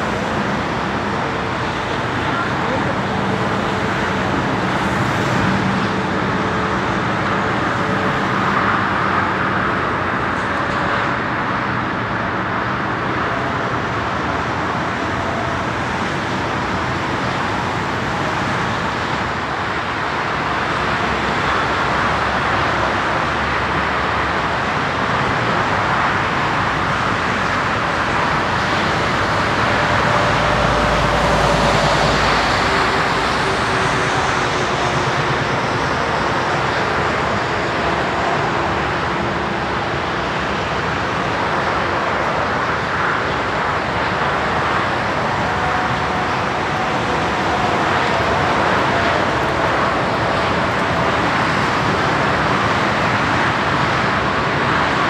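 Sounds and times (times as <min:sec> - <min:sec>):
jet engine noise: 0:00.0 - 0:55.0.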